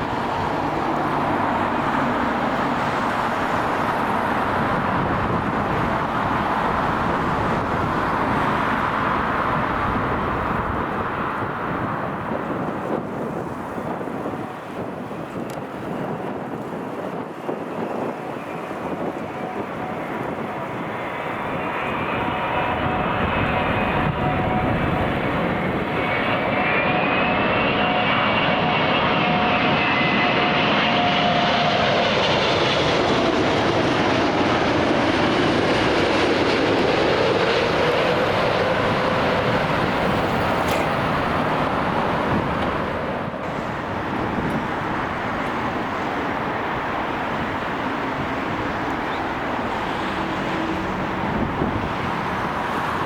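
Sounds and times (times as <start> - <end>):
jet engines whining: 0.0 - 53.0.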